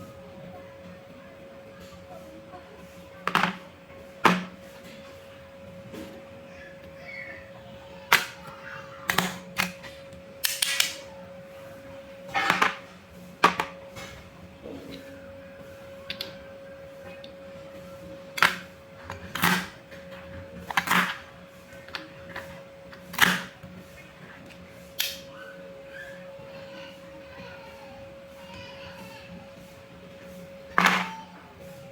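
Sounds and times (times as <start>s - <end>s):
faint hum: 0.0s - 31.9s.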